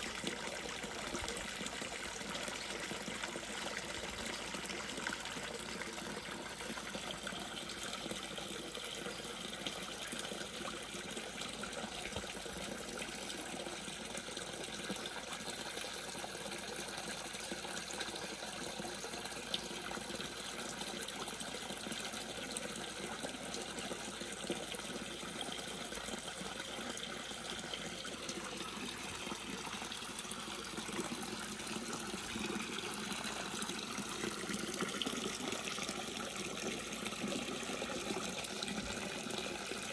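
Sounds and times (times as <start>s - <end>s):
fountain bubbling: 0.0s - 39.9s
water pouring into pond: 0.0s - 39.9s.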